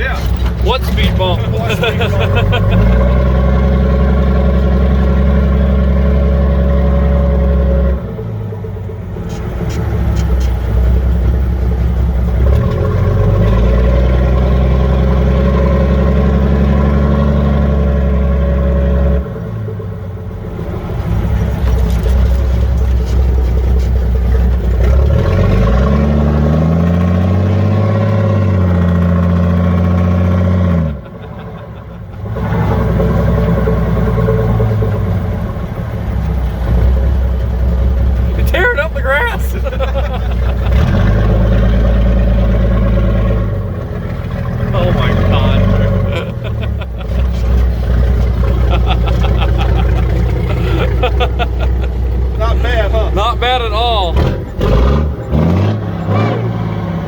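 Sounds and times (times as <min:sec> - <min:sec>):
diesel truck engine under load: 0:00.0 - 0:57.0.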